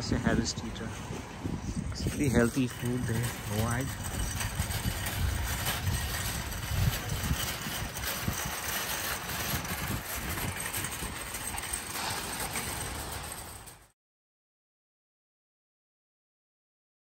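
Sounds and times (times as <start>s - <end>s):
shopping cart rattling over asphalt: 0.0s - 13.9s.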